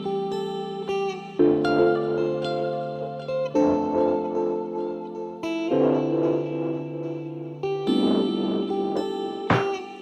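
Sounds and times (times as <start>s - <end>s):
plucked guitar: 0.0s - 10.0s.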